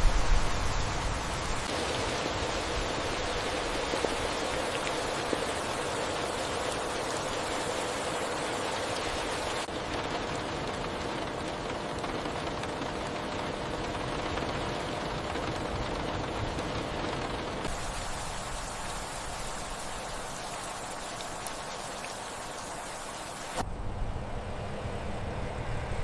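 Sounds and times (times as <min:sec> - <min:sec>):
heavy rain on a car: 0:00.1 - 0:23.6.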